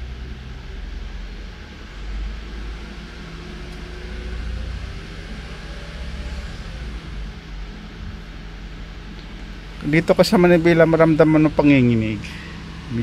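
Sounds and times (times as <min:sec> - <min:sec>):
car engine running with misfire: 0:00.0 - 0:13.0.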